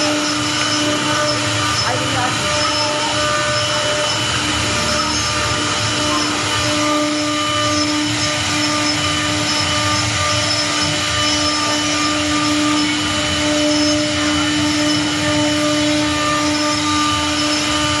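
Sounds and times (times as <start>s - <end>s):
router bits cutting wood: 0.0s - 18.0s
router spindles whining: 0.0s - 18.0s.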